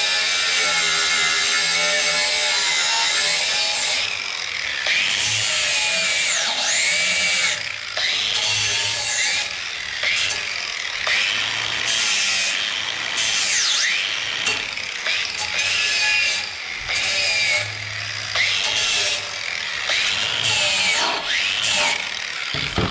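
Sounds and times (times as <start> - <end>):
electric sander grinding steel: 0.0 - 22.9.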